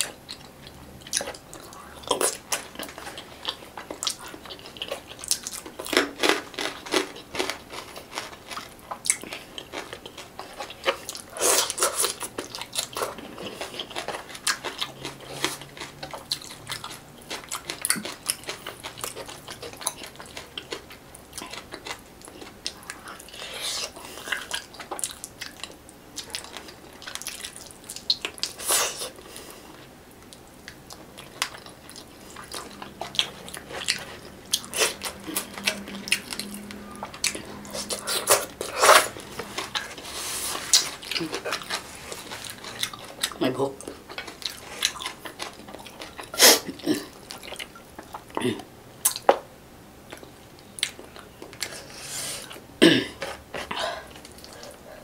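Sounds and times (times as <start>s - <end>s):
wet chewing and smacking: 0.0s - 48.4s, 49.0s - 49.5s, 50.1s - 52.6s, 53.2s - 55.0s.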